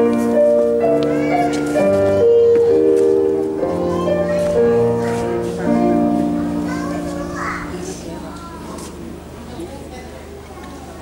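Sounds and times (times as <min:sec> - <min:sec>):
sustained keyboard chords: 0:00.0 - 0:09.9.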